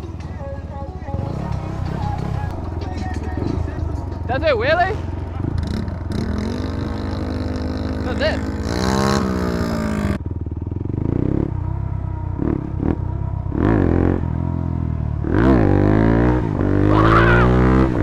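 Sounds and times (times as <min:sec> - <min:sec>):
dirt bike engine revving: 0:01.1 - 0:18.0.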